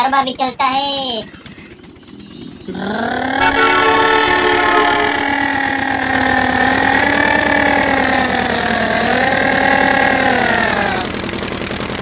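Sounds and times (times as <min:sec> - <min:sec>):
toy truck engine drone with rattle: 0:00.0 - 0:12.0.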